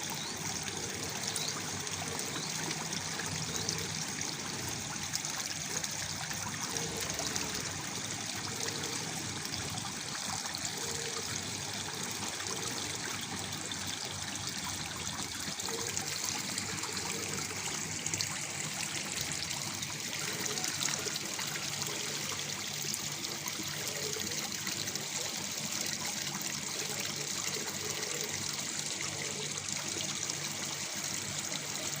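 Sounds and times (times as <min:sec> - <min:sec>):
small waterfall splashing: 0:00.0 - 0:32.0.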